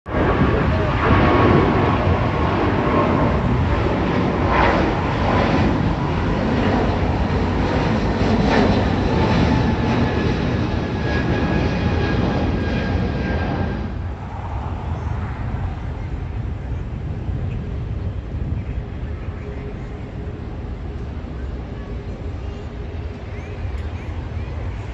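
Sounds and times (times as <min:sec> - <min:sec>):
airport rumble: 0:00.1 - 0:24.9
jet engines at takeoff power: 0:00.1 - 0:24.9.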